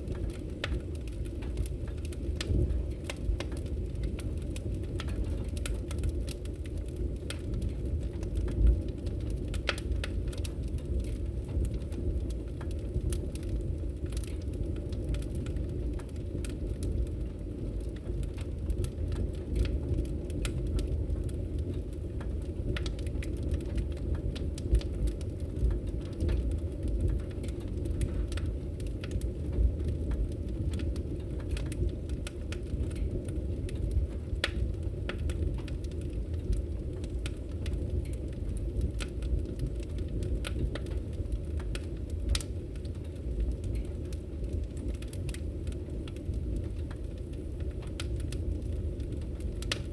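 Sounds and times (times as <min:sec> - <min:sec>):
logs crackling and popping: 0:00.0 - 0:49.9
low rumble of flames: 0:00.0 - 0:49.9.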